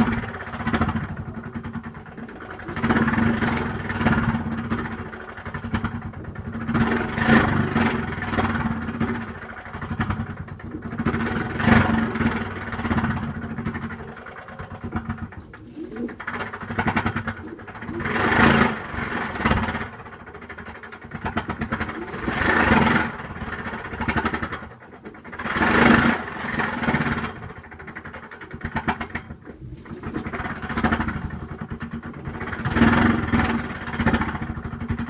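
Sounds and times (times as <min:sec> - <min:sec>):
washing machine rattling and humming: 0:00.0 - 0:35.0.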